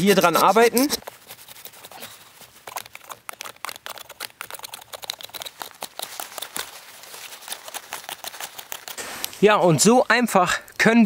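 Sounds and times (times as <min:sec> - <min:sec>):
knife whittling wood: 0:00.0 - 0:09.4.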